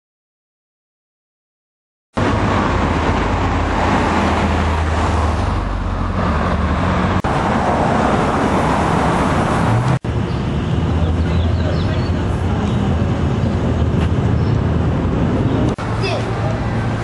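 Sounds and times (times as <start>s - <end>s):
engine hum: 2.2s - 17.0s
tyre and traffic noise: 2.2s - 17.0s.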